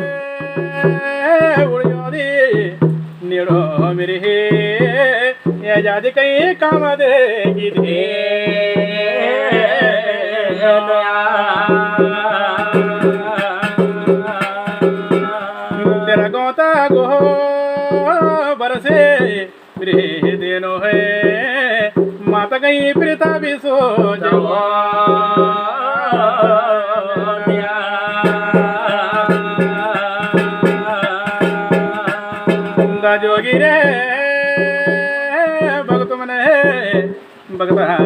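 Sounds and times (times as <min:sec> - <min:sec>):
drum beating quick rhythm: 0:00.0 - 0:38.0.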